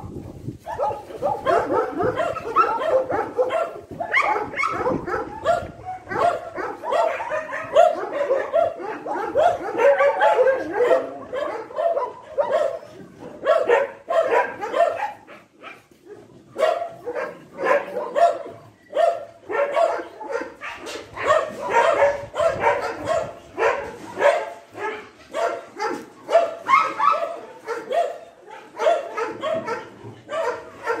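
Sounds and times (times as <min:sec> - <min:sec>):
dogs barking: 0:00.6 - 0:31.0.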